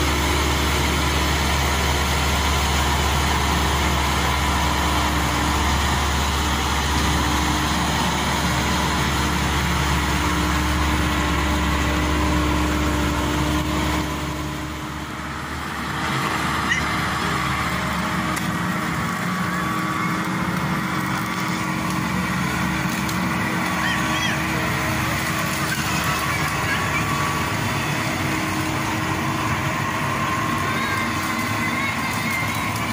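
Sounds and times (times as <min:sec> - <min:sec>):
combine harvester diesel engine: 0:00.0 - 0:32.9.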